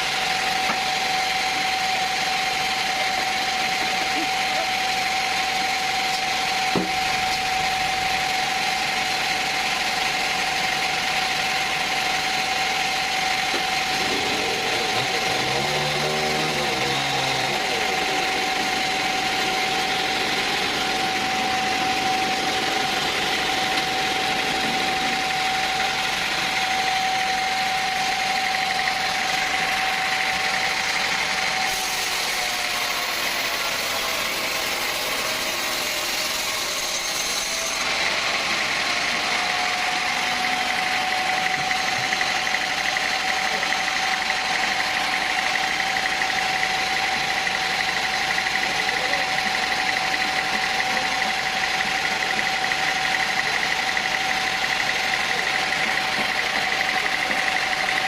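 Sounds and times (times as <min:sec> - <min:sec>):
sawmill machinery whining: 0:00.0 - 0:58.0.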